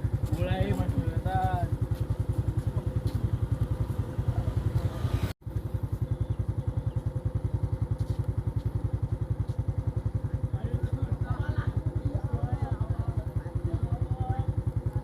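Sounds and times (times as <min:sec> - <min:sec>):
vehicle engine throbbing: 0:00.0 - 0:15.0.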